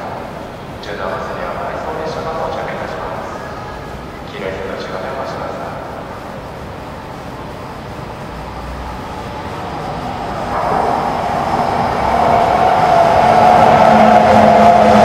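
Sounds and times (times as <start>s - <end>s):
steady low hum: 0.0s - 15.0s
train approaching: 0.0s - 15.0s.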